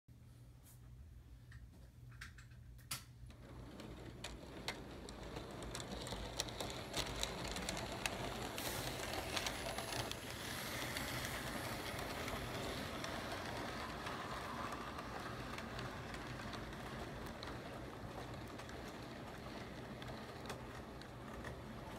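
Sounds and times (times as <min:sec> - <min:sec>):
model train whirring rumble: 0:03.3 - 0:21.9
wheels clicking on track: 0:03.3 - 0:21.9.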